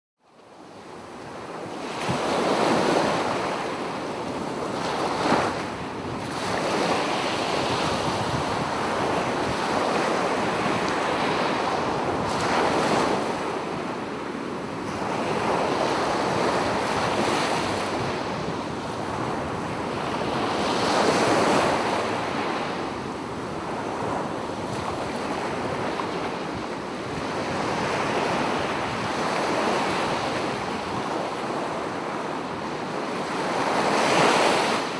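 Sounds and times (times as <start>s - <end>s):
ocean waves breaking on beach: 0.4s - 34.9s.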